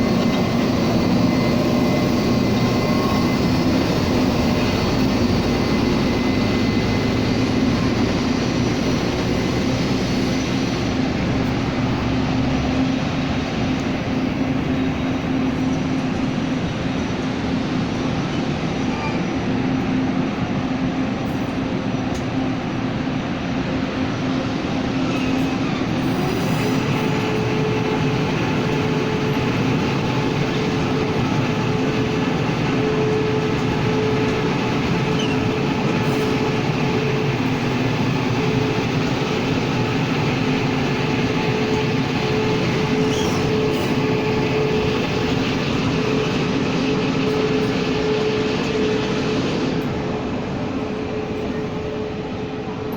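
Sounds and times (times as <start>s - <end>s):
locomotive humming tone: 0.0s - 52.9s
train rolling: 0.0s - 52.9s.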